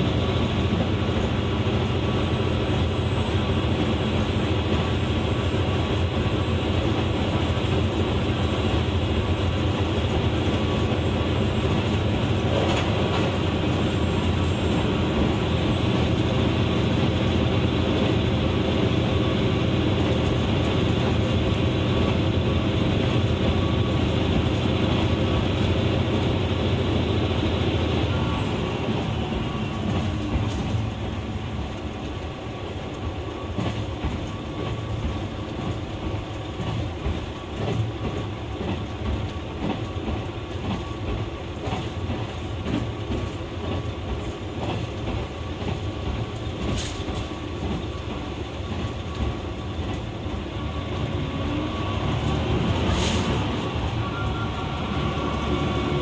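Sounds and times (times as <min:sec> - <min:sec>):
diesel railcar engine droning: 0:00.0 - 0:56.0
train rumbling while coasting: 0:00.0 - 0:56.0.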